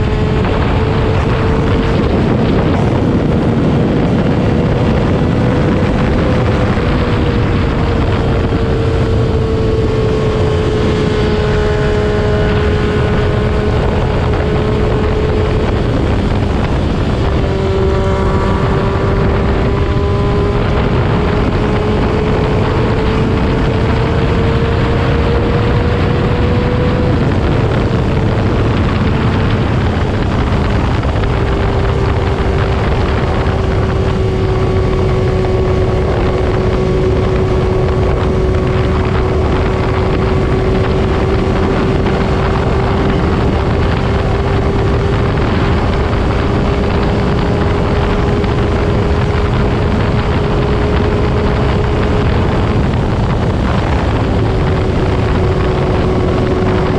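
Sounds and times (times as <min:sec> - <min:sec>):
motorcycle engine drone: 0:00.0 - 0:56.9
wind rush on microphone: 0:00.0 - 0:56.9.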